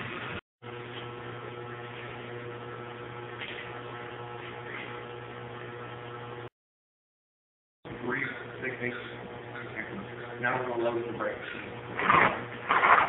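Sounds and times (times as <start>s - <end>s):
low electrical hum: 0.0s - 6.5s, 7.9s - 13.0s.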